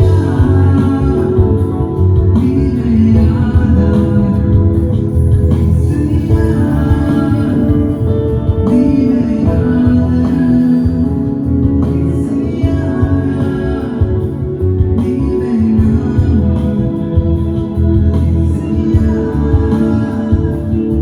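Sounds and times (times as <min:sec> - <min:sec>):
guitar: 0:00.0 - 0:21.0
keyboard: 0:00.0 - 0:21.0
person singing: 0:00.0 - 0:21.0
steady bass: 0:00.0 - 0:21.0.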